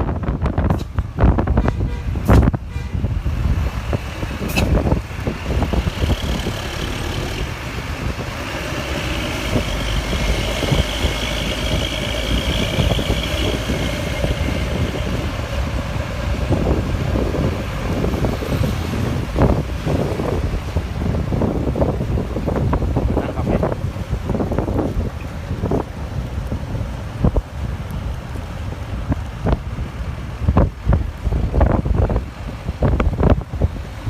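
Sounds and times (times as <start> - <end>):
heavy road vehicle passing: 0.0 - 34.0
wind buffeting microphone: 0.0 - 34.0.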